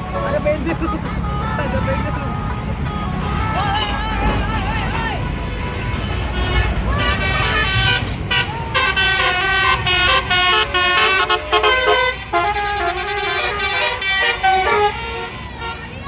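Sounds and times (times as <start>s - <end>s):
multi-tone bus horn tune: 0.0s - 16.0s
passing traffic rumble: 0.0s - 16.0s.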